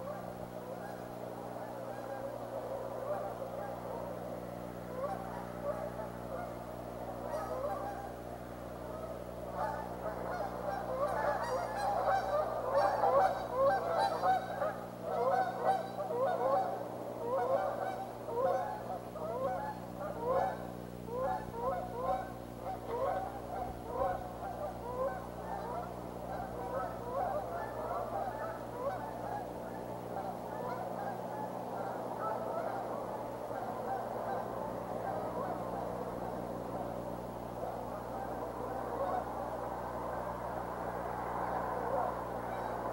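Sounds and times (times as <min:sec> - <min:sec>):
geese honking: 0:00.0 - 0:42.9
steady low hum: 0:00.0 - 0:42.9.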